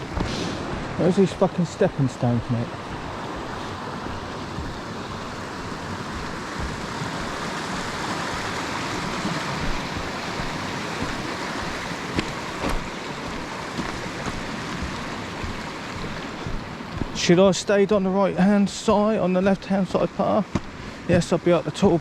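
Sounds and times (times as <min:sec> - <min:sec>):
river flowing over rocks: 0:00.0 - 0:22.0.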